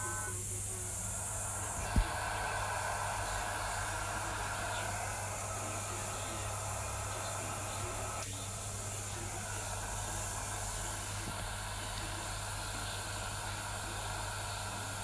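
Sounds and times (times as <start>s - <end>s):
low mains hum: 0.0s - 15.0s
radio static hiss: 0.0s - 15.0s.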